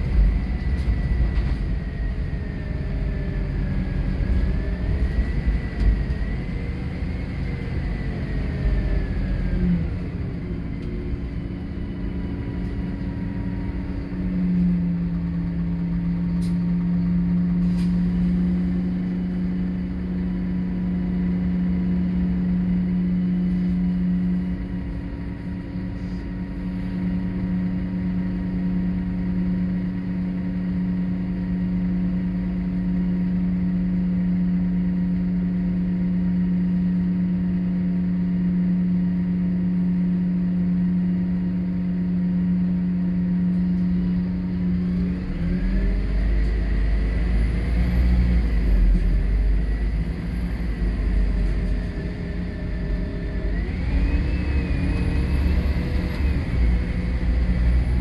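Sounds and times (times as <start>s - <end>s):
bus engine idling and revving: 0.0s - 58.0s.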